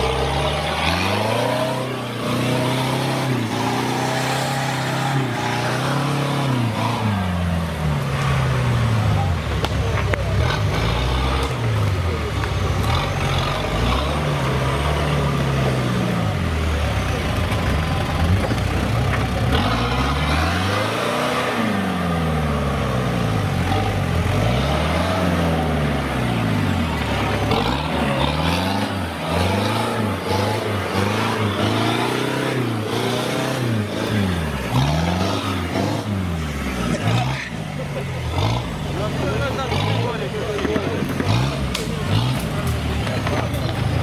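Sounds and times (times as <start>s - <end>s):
off-road engine revving: 0.0s - 44.0s.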